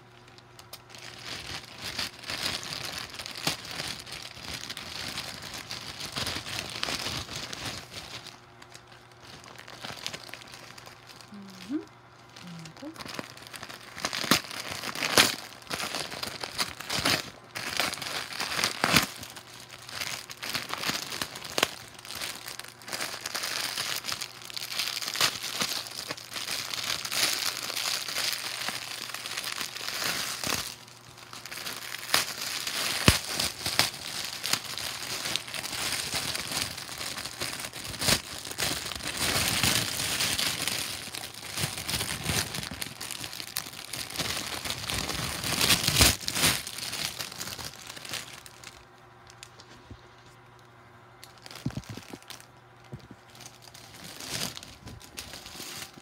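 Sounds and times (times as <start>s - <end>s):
plastic bags crinkling: 0.0s - 56.0s.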